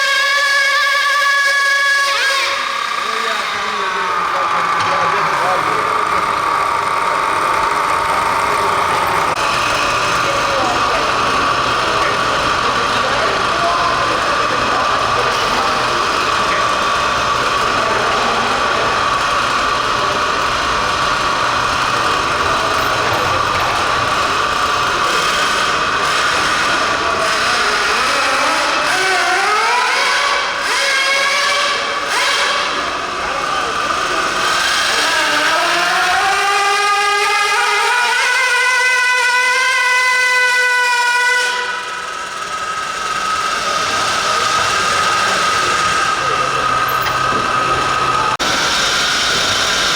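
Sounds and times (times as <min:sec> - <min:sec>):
toy car motor whining: 0:01.6 - 0:38.8, 0:41.4 - 0:49.9.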